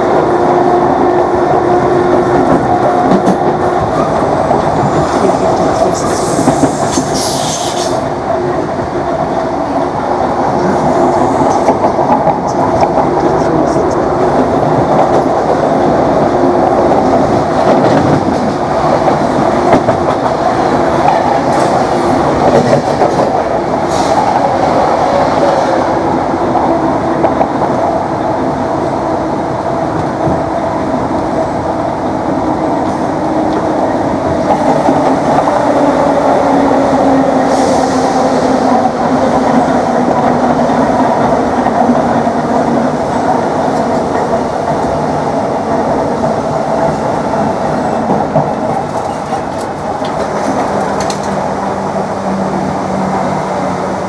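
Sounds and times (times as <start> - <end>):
train rumble and rattle: 0.0 - 54.0.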